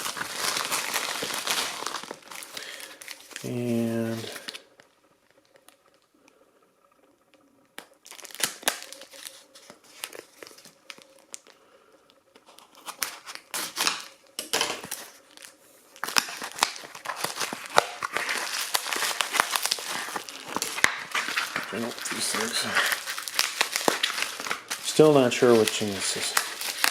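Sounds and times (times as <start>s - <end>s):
packaging tearing and crinkling: 0.0s - 4.7s, 7.8s - 11.6s, 12.4s - 26.9s.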